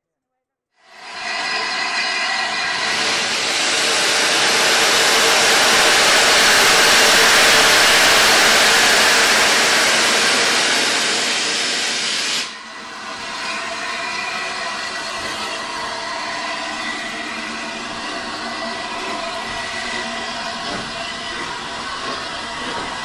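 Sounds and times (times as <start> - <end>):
steam train rushing: 0.8 - 23.0.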